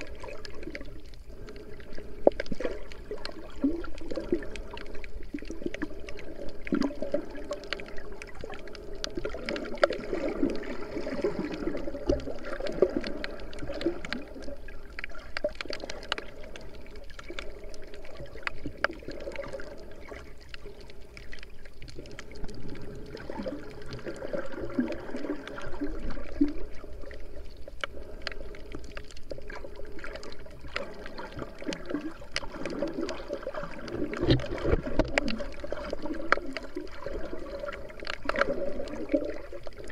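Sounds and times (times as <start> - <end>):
muffled underwater water sloshing: 0.0 - 39.9
small underwater clicks and crackles: 0.0 - 39.9.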